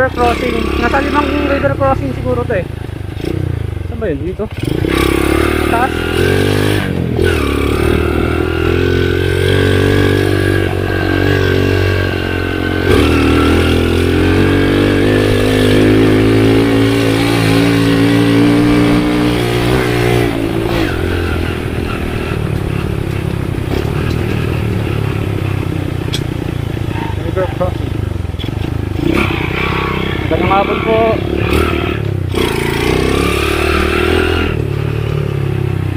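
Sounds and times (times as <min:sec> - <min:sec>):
motorcycle engine under load: 0:00.0 - 0:35.9.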